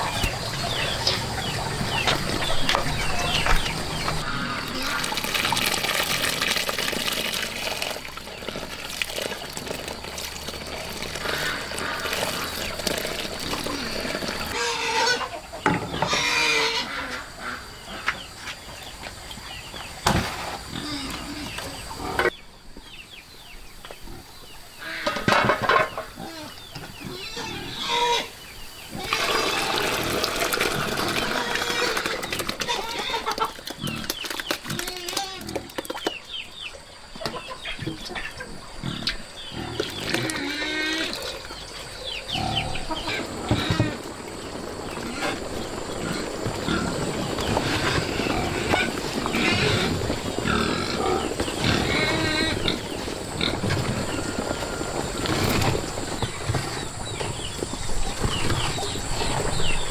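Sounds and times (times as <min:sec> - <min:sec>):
chickens clucking: 0:00.0 - 0:23.1, 0:23.8 - 0:59.9.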